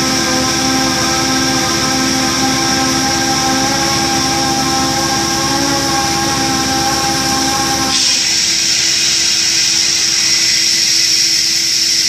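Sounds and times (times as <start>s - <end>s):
boring machine mechanical whine: 0.0s - 12.0s.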